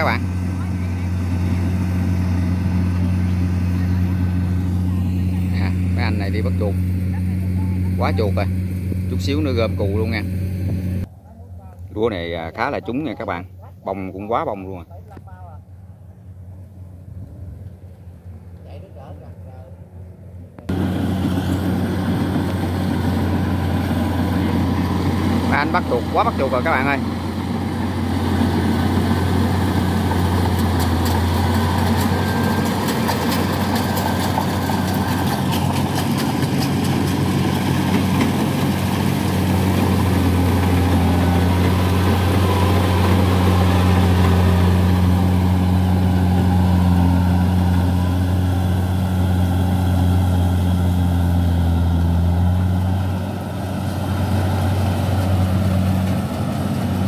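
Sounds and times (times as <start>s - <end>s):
diesel engine running: 0.0s - 13.1s, 15.4s - 57.0s.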